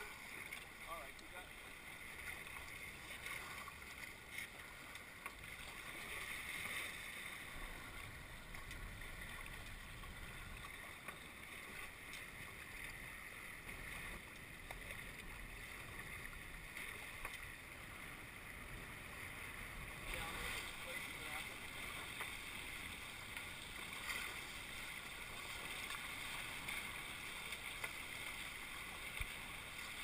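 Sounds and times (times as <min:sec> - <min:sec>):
water rushing past hulls: 0:00.0 - 0:30.0.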